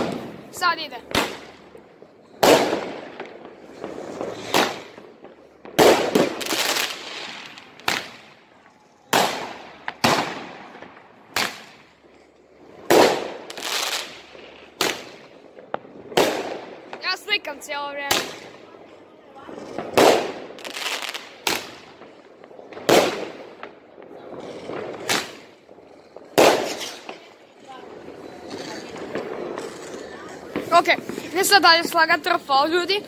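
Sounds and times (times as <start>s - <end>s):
fireworks bangs with echo: 0.0s - 33.0s.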